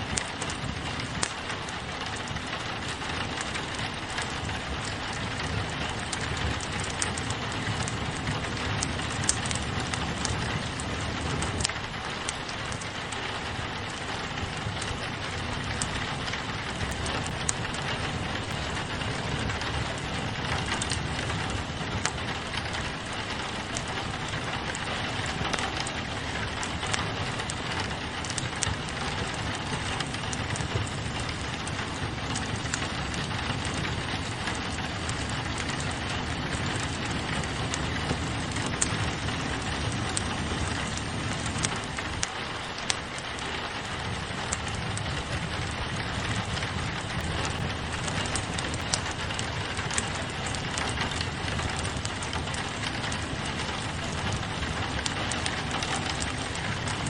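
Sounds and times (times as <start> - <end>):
rain on a window: 0.0 - 57.0
wood fire crackling: 0.0 - 57.0.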